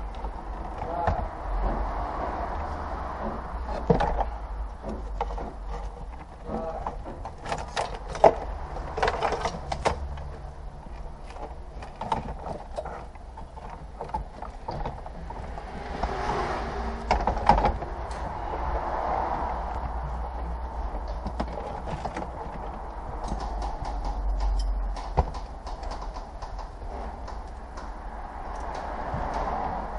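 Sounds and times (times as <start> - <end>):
dashboard parts clicking and clattering: 2.9 - 16.3, 17.0 - 18.7, 19.8 - 29.9.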